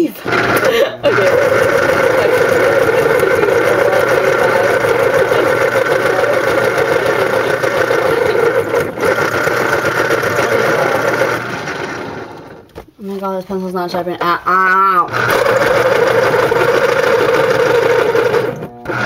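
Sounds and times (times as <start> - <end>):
electric pencil sharpener motor: 0.2 - 12.7, 15.1 - 19.0.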